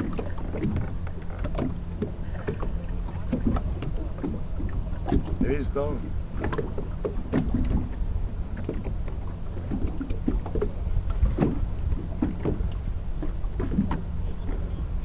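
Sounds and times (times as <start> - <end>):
water lapping against boat hull: 0.0 - 15.0
wind rumble on microphone: 0.0 - 15.0.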